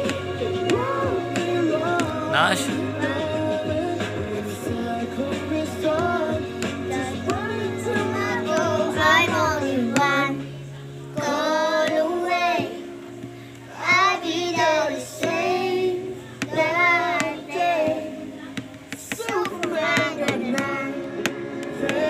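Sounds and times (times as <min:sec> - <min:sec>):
children singing a pop song: 0:00.0 - 0:22.0.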